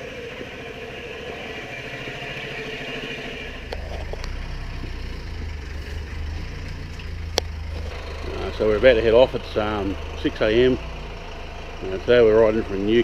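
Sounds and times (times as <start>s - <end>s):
deep pulsing low rumble: 0.0s - 13.0s
motorcycle engine idling: 0.0s - 13.0s.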